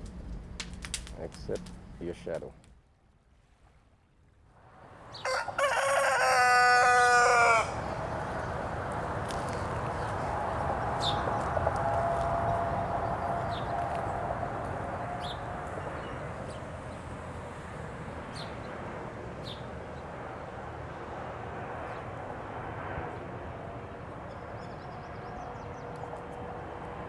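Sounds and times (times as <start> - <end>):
road traffic rumble: 0.0 - 2.7, 4.6 - 27.0.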